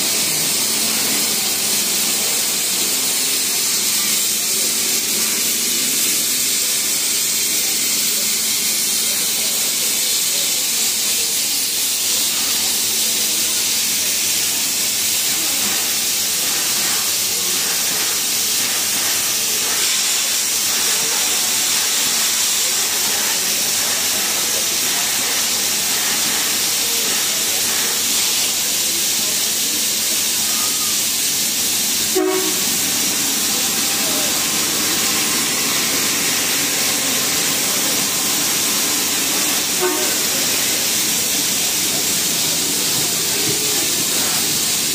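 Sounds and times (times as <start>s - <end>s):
steam hissing from locomotive: 0.0s - 44.9s.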